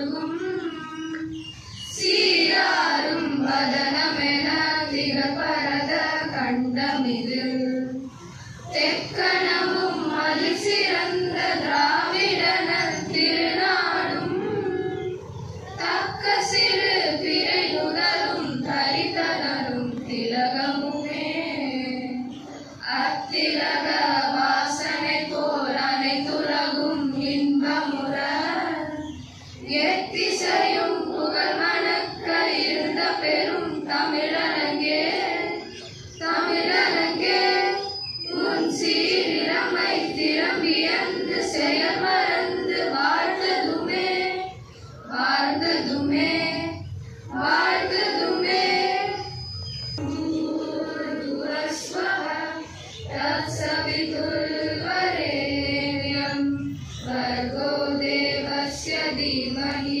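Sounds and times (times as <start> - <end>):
girls singing in unison: 0.0 - 60.0.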